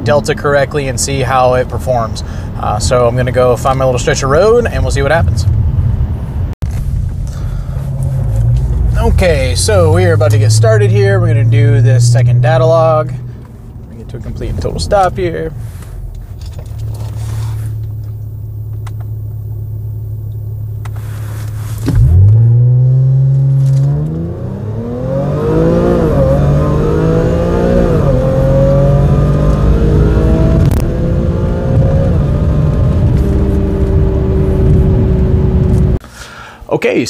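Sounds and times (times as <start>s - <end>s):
car engine accelerating: 5.0s - 36.0s.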